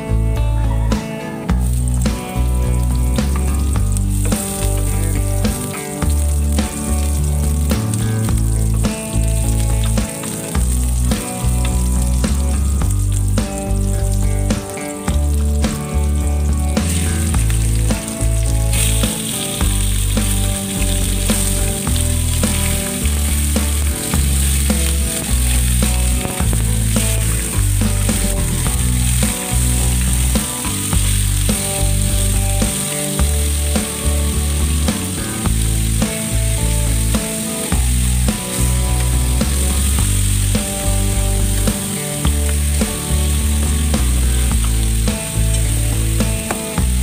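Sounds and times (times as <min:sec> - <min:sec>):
background music with bass line: 0:00.0 - 0:47.0
food sizzling in a frying pan: 0:01.5 - 0:47.0.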